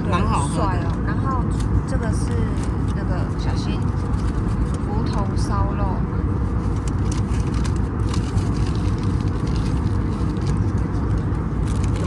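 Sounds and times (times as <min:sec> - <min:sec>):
restaurant background rumble: 0:00.0 - 0:12.0.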